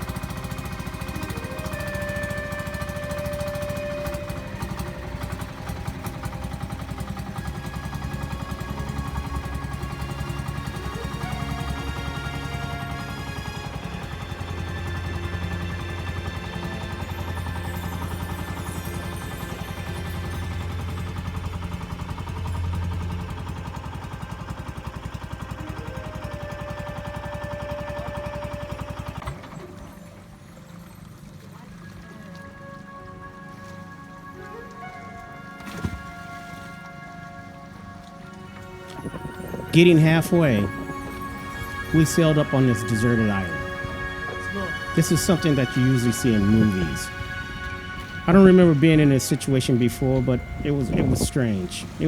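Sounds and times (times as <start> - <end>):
boat engine chugging: 0.0 - 52.0.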